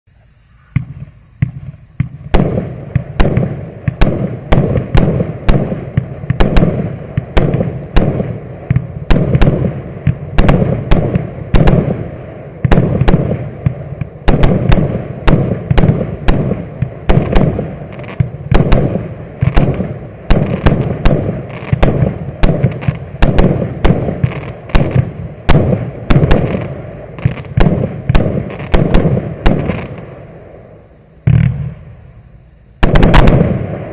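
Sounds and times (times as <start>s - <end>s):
firework bangs and crackling: 0.2s - 32.0s, 32.8s - 33.9s.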